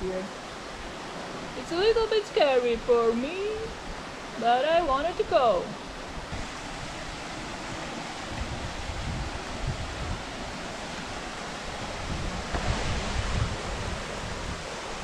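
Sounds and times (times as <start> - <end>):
running water rushing: 0.0 - 15.0
wind rumbling on microphone: 0.0 - 15.0.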